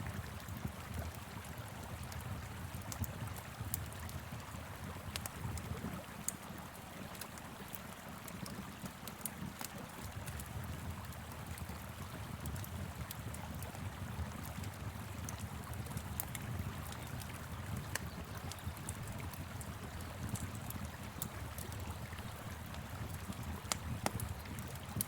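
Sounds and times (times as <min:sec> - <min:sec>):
flowing river: 0:00.0 - 0:25.0
wood fire crackling: 0:02.1 - 0:06.4, 0:08.2 - 0:25.0.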